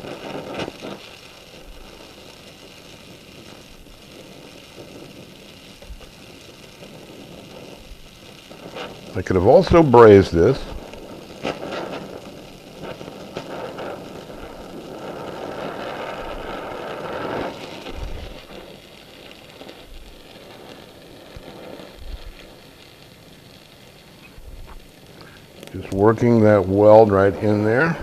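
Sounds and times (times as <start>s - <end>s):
welding torch flame hissing: 0.0s - 28.0s.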